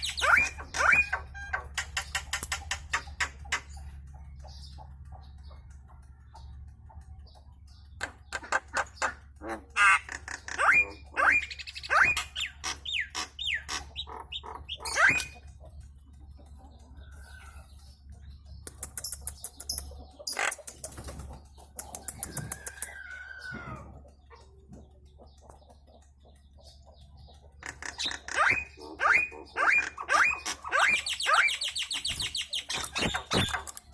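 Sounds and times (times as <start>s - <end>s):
myna clicking and whistling: 0.0s - 33.9s.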